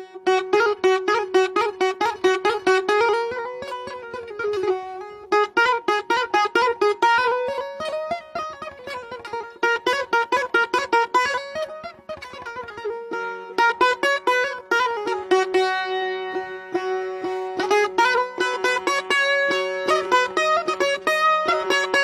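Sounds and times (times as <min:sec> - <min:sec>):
plucked string instrument melody: 0:00.0 - 0:22.0.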